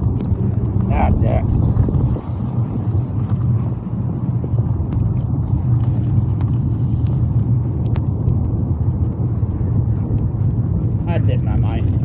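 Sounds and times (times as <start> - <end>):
cart rumbling on snow: 0.0 - 12.0.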